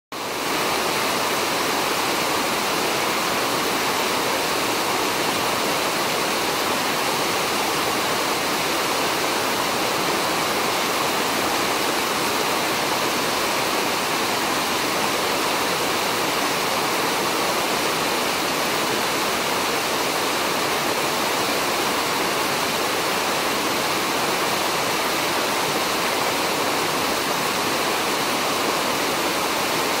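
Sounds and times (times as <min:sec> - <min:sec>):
running water rushing: 0:00.2 - 0:30.0.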